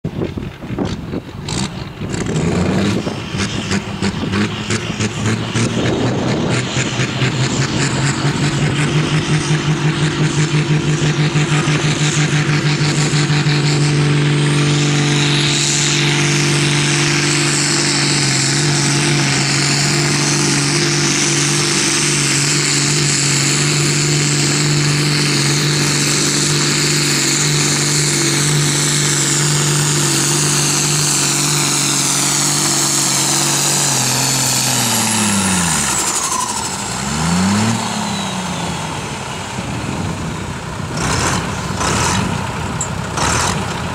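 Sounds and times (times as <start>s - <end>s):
tractor engine at high revs: 0.0s - 43.9s.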